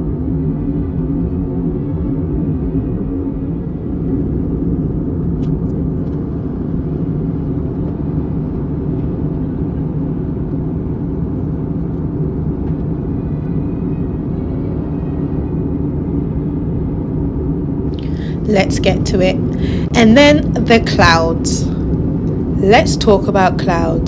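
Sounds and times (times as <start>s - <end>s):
airliner cabin engine rumble: 0.8s - 16.6s, 17.6s - 24.0s.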